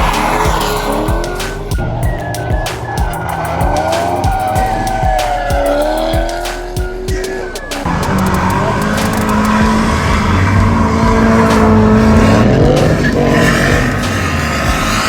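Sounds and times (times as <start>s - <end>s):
background music with steady beat: 0.0s - 15.0s
race car engines revving: 0.0s - 15.0s.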